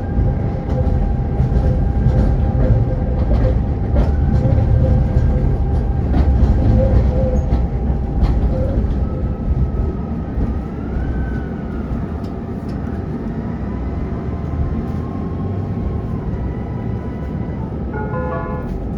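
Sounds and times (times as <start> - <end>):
tram rumbling along rails: 0.0 - 18.9.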